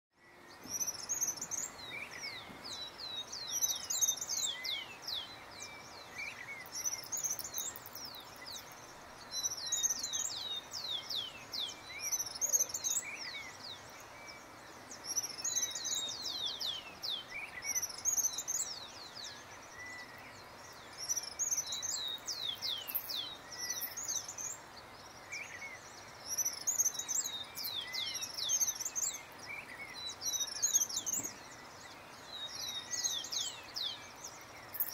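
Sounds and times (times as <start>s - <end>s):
songbirds singing: 0.1s - 34.9s
background hiss: 0.2s - 34.9s.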